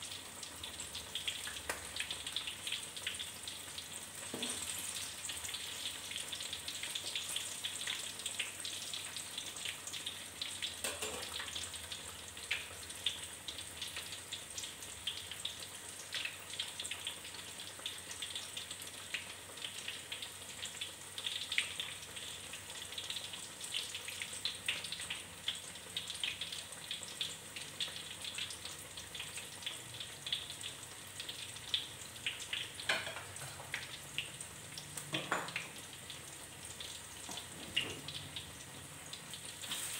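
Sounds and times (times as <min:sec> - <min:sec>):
food deep-frying in hot oil: 0:00.0 - 0:39.9
oil crackles and pops: 0:00.1 - 0:39.9.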